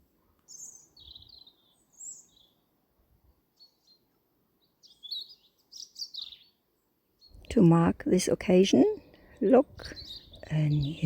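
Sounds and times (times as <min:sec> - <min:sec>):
small birds chirping: 0:00.4 - 0:02.7, 0:03.5 - 0:07.9, 0:08.5 - 0:11.0.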